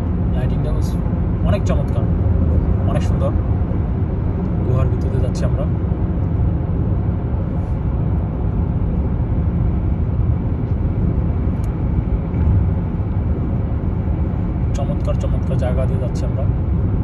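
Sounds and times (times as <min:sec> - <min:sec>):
car driving through tunnel: 0:00.0 - 0:17.0.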